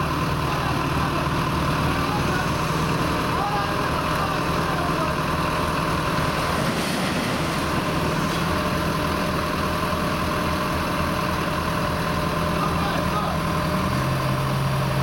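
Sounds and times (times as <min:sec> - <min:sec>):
diesel crane engines under load: 0:00.0 - 0:15.0.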